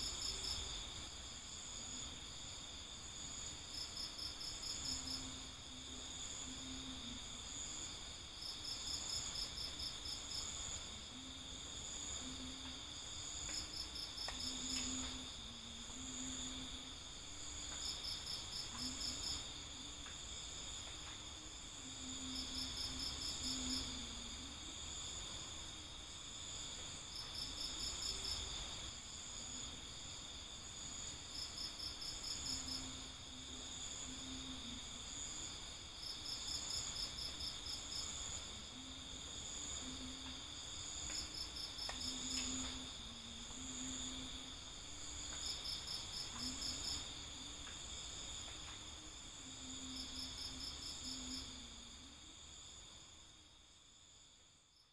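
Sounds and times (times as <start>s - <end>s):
insect chorus: 0.0s - 54.9s
rapid pulsed insect chirp: 0.0s - 54.9s.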